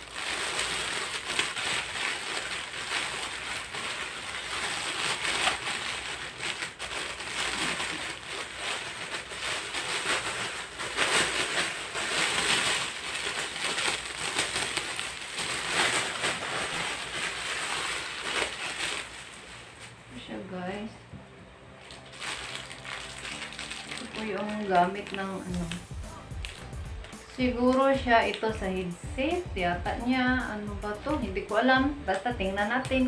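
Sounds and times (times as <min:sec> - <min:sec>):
plastic bag crinkling: 0:00.0 - 0:20.3, 0:21.7 - 0:29.0.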